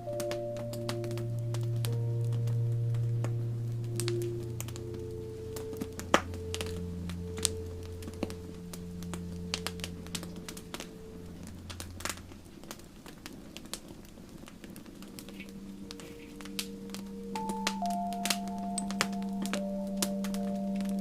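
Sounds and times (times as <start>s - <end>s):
soft background music tones: 0.0s - 21.0s
wood fire crackling and popping: 0.1s - 21.0s.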